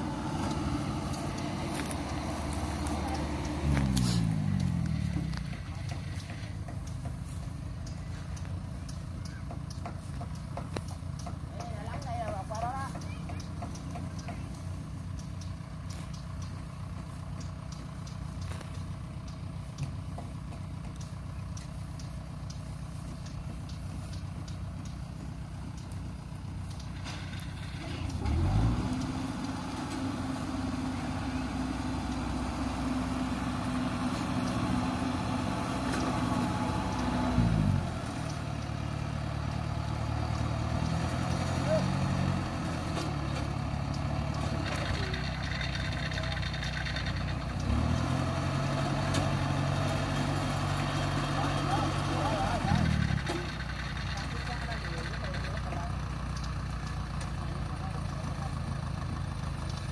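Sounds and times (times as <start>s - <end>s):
farm machinery engine revving: 0.0s - 59.9s.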